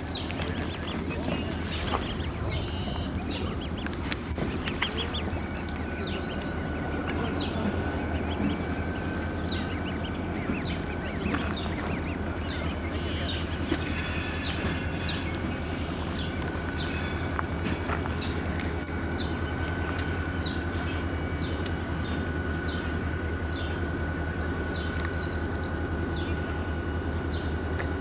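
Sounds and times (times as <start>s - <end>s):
goslings peeping: 0.0s - 28.0s
low background rumble: 0.0s - 28.0s.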